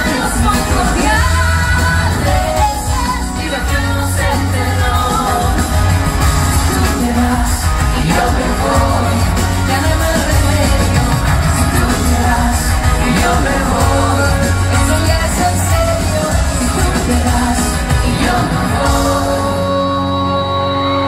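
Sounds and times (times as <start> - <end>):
heavy steady bass: 0.0 - 20.3
live pop-rock band: 0.0 - 21.0
person singing: 0.0 - 21.0.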